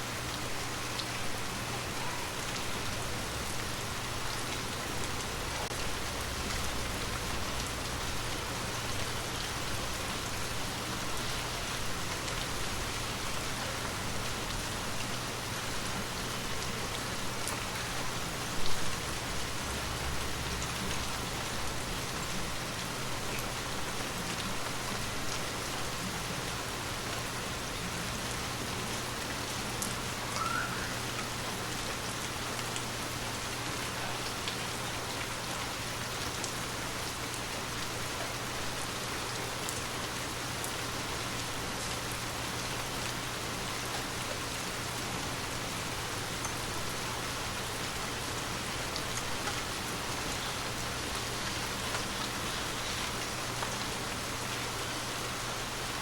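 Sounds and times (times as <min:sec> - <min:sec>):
gentle rain pattering: 0:00.0 - 0:56.0.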